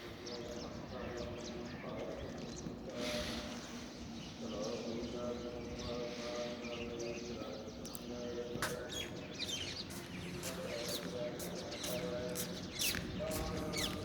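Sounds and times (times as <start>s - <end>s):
birds chirping: 0.0s - 14.0s
faint background voices: 0.0s - 14.0s.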